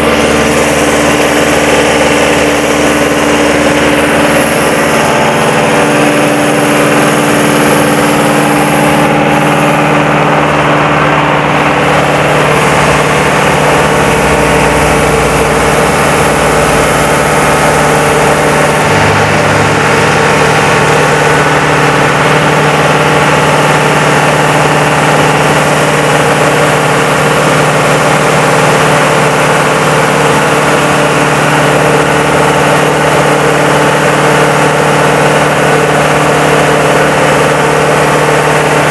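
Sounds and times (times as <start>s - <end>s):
diesel engine running loudly: 0.0s - 38.9s.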